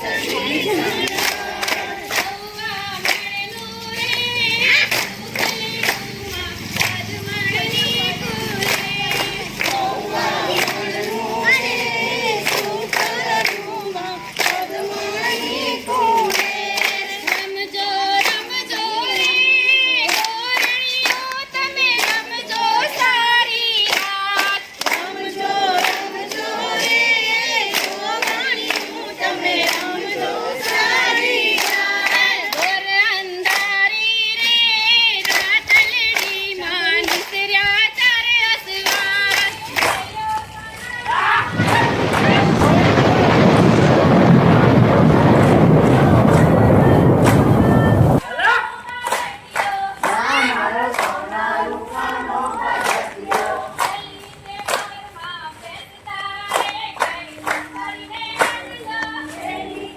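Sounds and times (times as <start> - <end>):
rhythmic hand clapping: 0.0 - 44.4, 45.0 - 59.9
group singing in chorus: 0.0 - 59.9.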